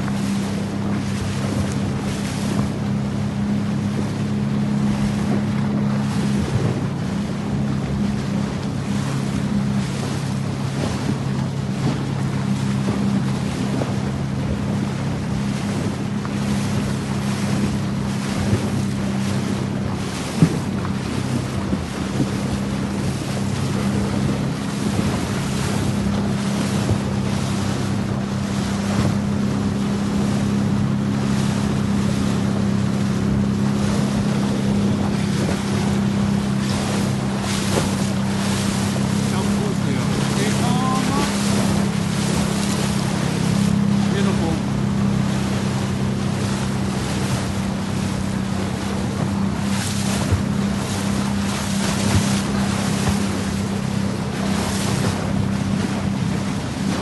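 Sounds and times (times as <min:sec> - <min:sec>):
boat engine humming: 0:00.0 - 0:57.0
water rushing along hull: 0:00.0 - 0:57.0
wind buffeting microphone: 0:00.0 - 0:57.0.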